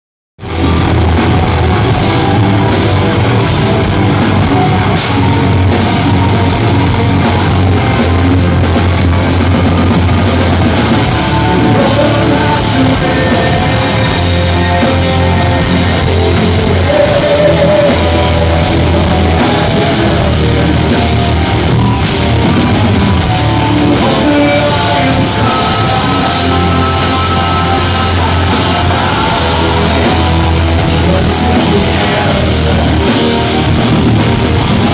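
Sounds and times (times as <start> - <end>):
live hard rock band: 0.4 - 34.9
male lead singer: 0.4 - 34.9.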